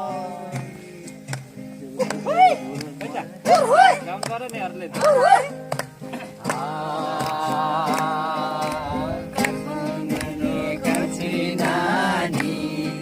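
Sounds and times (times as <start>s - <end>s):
person singing folk song: 0.0s - 13.0s
rhythmic accompaniment: 0.0s - 13.0s.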